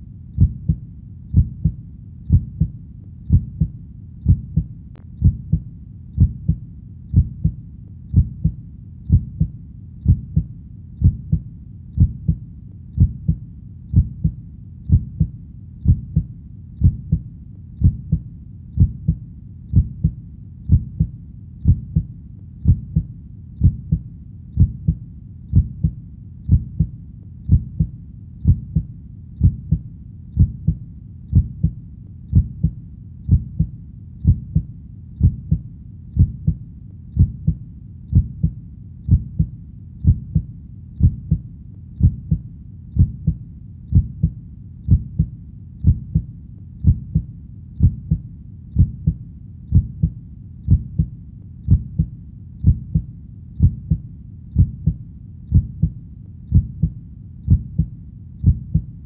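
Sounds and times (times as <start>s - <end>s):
faint low rumble: 0.0s - 59.0s
heartbeat double thump: 0.4s - 2.7s, 3.3s - 11.4s, 12.0s - 12.4s, 13.0s - 17.2s, 17.8s - 18.2s, 18.8s - 24.0s, 24.6s - 26.9s, 27.5s - 29.8s, 30.4s - 32.7s, 33.3s - 35.6s, 36.2s - 36.6s, 37.2s - 41.4s, 42.0s - 42.4s, 43.0s - 48.2s, 48.8s - 51.1s, 51.7s - 54.0s, 54.6s - 58.9s.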